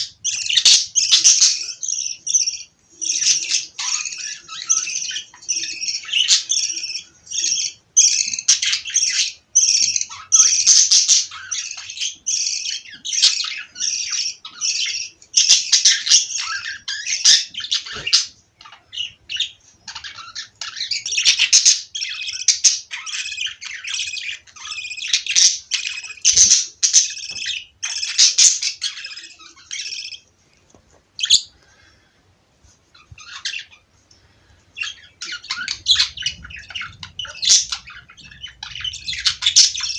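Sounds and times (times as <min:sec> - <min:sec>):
budgerigars chirping and chattering: 0:00.0 - 0:30.3, 0:31.2 - 0:32.0, 0:32.9 - 0:39.9.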